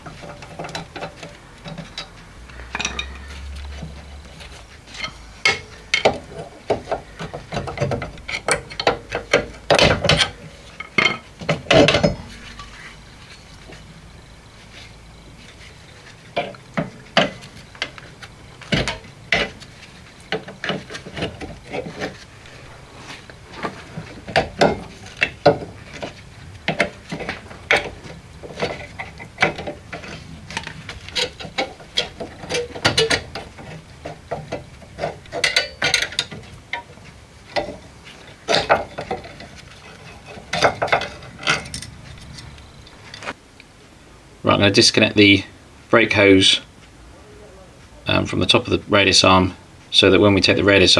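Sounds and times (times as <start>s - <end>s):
metallic clinks and scrapes: 0.0s - 43.4s.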